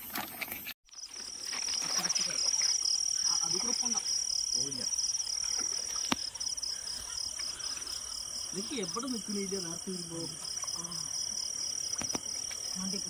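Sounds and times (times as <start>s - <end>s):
night insects trilling: 0.9s - 13.0s.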